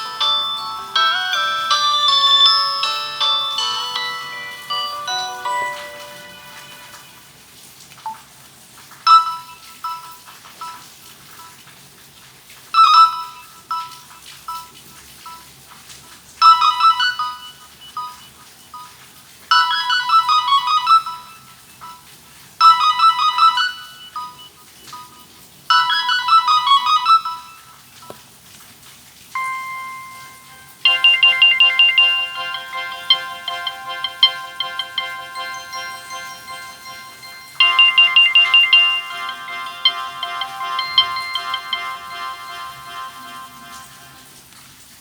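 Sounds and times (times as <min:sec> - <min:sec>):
phone ringtone: 0:00.0 - 0:07.4, 0:09.1 - 0:11.6, 0:12.8 - 0:15.5, 0:16.4 - 0:28.2, 0:29.4 - 0:44.5.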